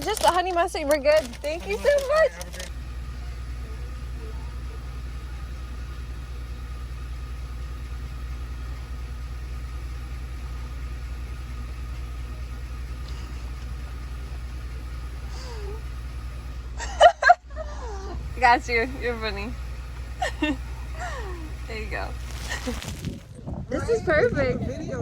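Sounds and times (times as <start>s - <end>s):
pickup truck engine rumble: 0.0s - 25.0s.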